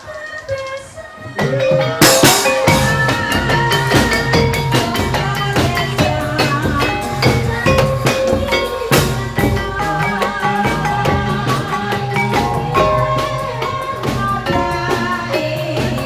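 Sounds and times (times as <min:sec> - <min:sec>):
drums beating: 0:01.3 - 0:16.0
melodic instruments playing: 0:01.4 - 0:16.0.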